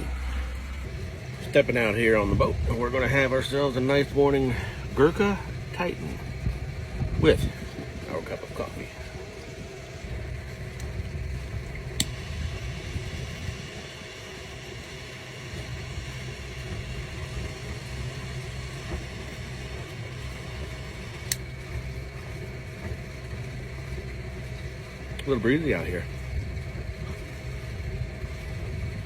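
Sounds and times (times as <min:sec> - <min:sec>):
wind buffeting microphone: 0:00.0 - 0:25.1, 0:25.7 - 0:29.0.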